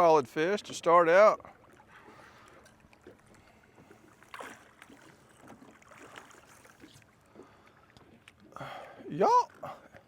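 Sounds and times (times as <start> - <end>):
water lapping: 0.0 - 10.0.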